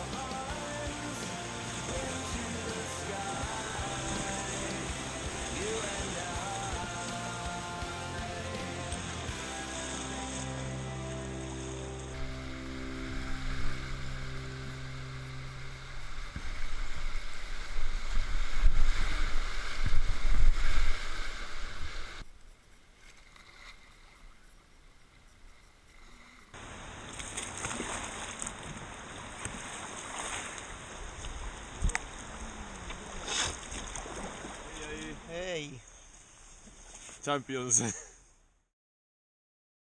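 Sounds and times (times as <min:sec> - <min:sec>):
river water rushing and splashing: 0:00.0 - 0:22.2, 0:22.9 - 0:35.6.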